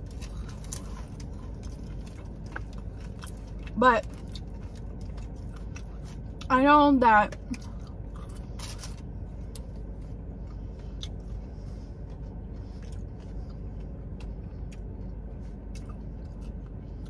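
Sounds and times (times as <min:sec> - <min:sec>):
chewing crispy fried chicken: 0:00.0 - 0:06.6, 0:07.4 - 0:17.0.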